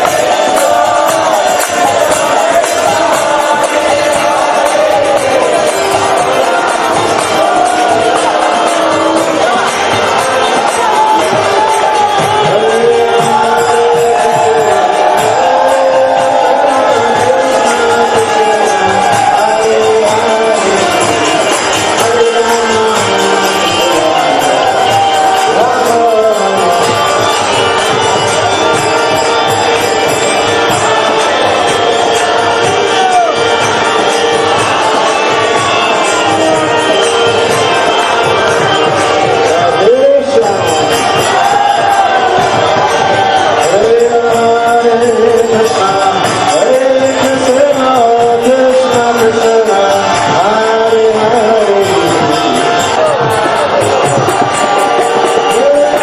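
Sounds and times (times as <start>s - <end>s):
jingling hand percussion: 0.0s - 56.0s
voices singing a chant: 0.0s - 56.0s.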